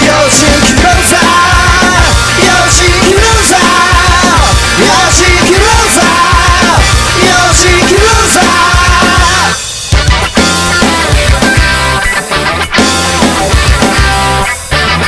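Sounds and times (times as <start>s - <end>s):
bass: 0.0s - 15.0s
drums: 0.0s - 15.0s
melodic lead guitar line: 0.0s - 15.0s.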